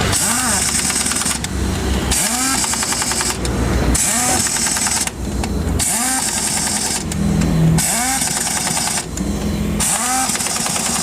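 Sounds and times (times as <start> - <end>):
impact wrench whine and rattle: 0.0 - 11.0.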